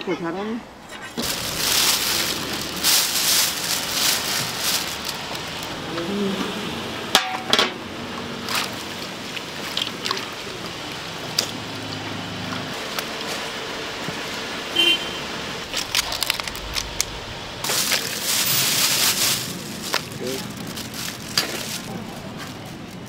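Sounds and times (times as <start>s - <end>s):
frying sizzle: 1.2s - 5.8s, 6.8s - 23.0s.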